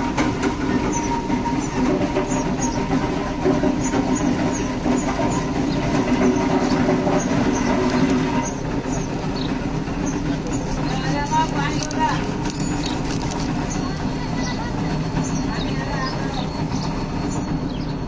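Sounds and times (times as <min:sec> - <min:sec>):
machine running with low hum: 0:00.0 - 0:18.0.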